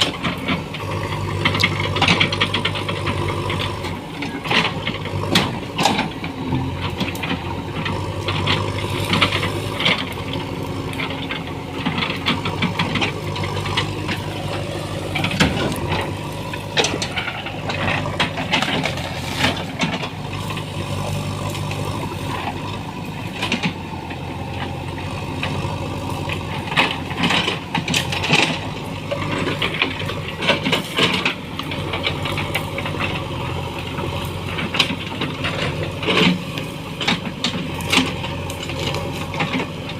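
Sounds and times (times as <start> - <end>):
diesel engine running: 0.0 - 39.9
sharp cracks and knocks: 6.8 - 39.9.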